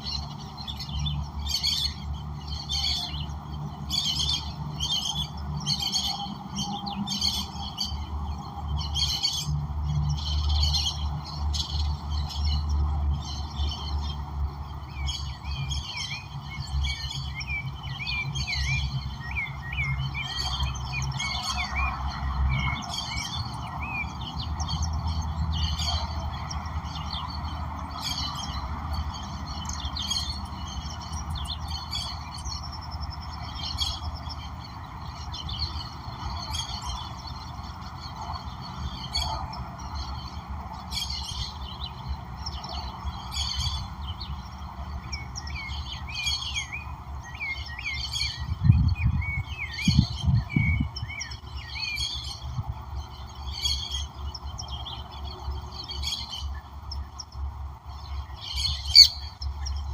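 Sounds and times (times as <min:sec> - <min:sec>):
wild birds calling: 0:00.0 - 0:59.9.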